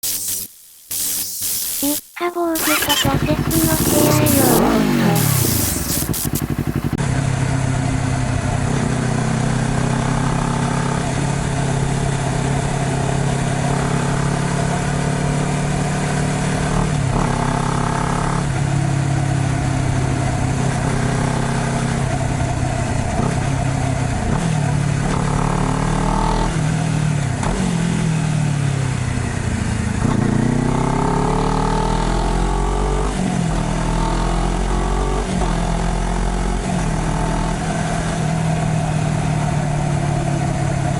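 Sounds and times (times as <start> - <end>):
motorcycle engine revving through gears: 2.7 - 40.9.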